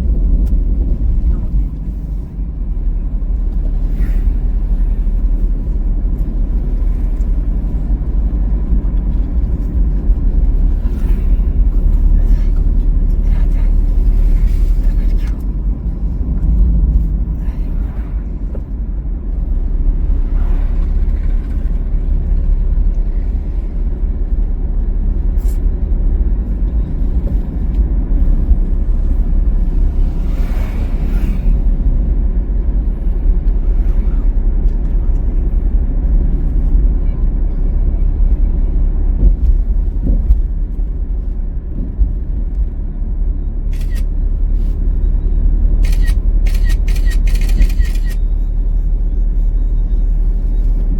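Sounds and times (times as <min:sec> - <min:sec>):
car driving on highway: 0:00.0 - 0:50.9.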